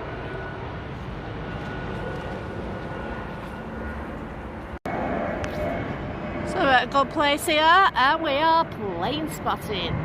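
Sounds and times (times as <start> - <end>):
jet engine rumble: 0.0 - 10.0.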